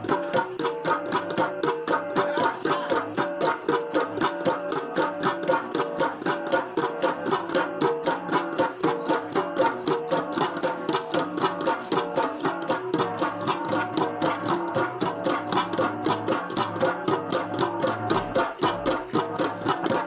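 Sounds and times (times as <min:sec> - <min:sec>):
flat gongs played in fast rhythm: 0:00.0 - 0:20.0.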